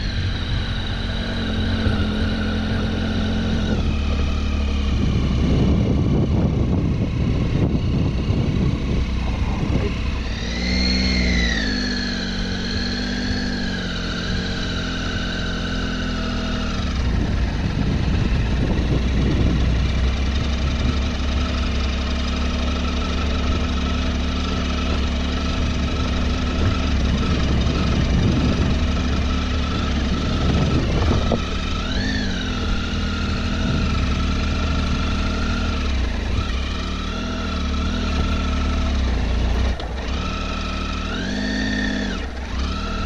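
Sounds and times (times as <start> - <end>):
low wind rumble: 0.0 - 43.0
motorcycle engine running: 0.0 - 43.0.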